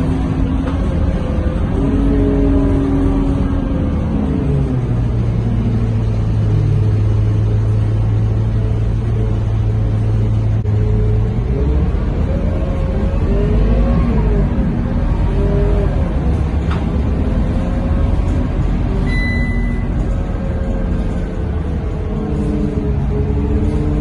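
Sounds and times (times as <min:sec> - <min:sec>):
bus diesel engine: 0:00.0 - 0:24.0.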